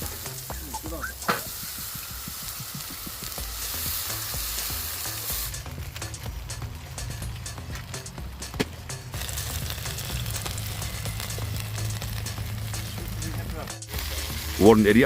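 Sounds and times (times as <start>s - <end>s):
meat sizzling: 0.0s - 15.0s.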